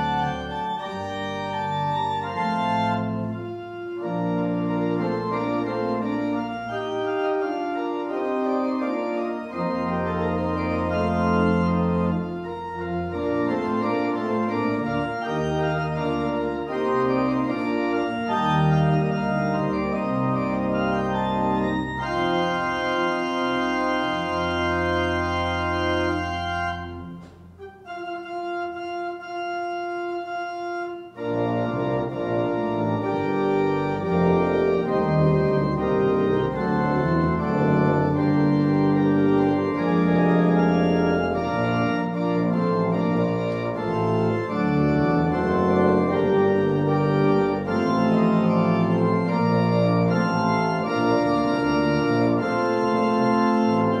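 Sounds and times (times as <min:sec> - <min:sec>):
organ music: 0:00.0 - 0:54.0.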